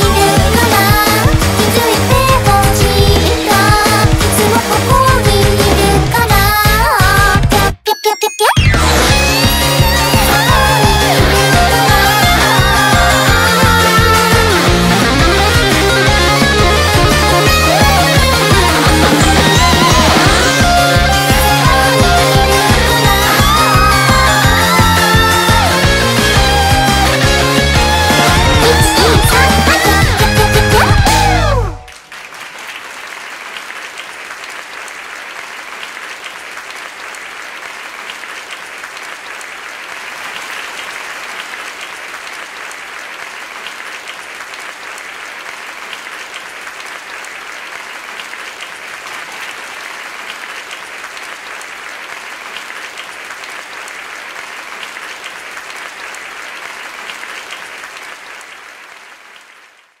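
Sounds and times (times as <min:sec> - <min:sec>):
crowd applause: 0:00.0 - 0:06.3, 0:08.7 - 1:00.0.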